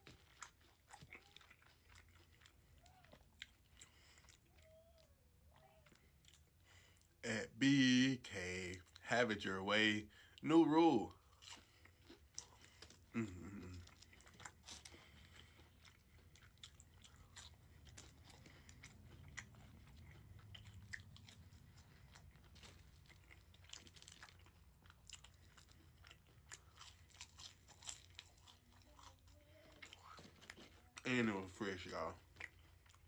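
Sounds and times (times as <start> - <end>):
chewing and crunching food: 0.0 - 33.0.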